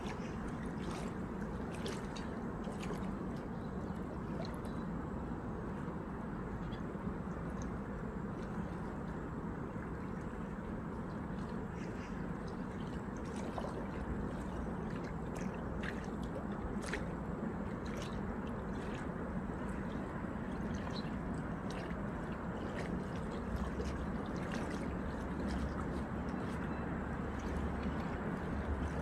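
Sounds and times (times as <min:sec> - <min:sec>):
faint light splashes and clicks: 0:00.0 - 0:04.9, 0:06.6 - 0:29.0
steady low rumble: 0:00.0 - 0:29.0
waves lapping at shore: 0:00.0 - 0:29.0.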